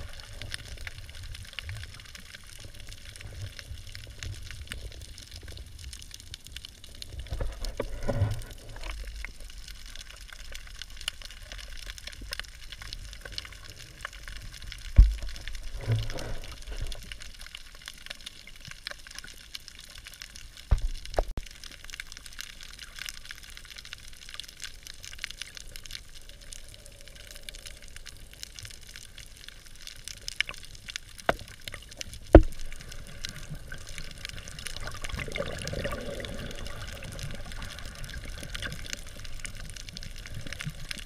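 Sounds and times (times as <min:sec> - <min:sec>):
fine crackle: 0:00.0 - 0:41.0
muffled underwater water wash: 0:00.0 - 0:41.0.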